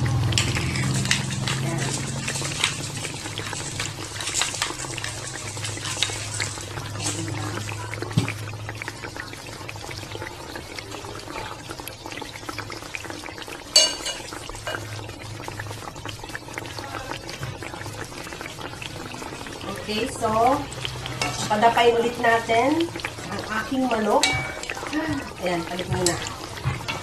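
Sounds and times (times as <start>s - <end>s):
sauce simmering with crackle: 0.0s - 27.0s.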